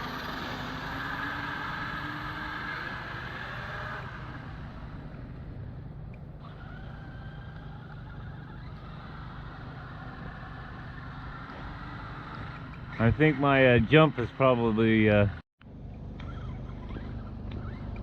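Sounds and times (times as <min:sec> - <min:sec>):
electric motor whining: 0:00.0 - 0:15.4, 0:16.2 - 0:18.0.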